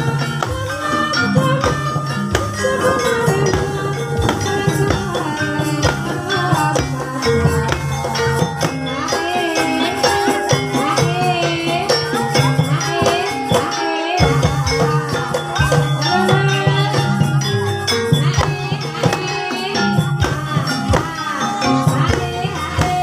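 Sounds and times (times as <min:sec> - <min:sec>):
drum and percussion beats: 0:00.0 - 0:23.0
person singing wavering melody: 0:00.0 - 0:23.0.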